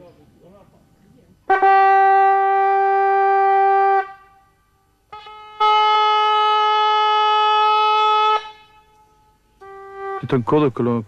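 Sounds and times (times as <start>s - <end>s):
hunting horn blowing: 1.5s - 11.0s.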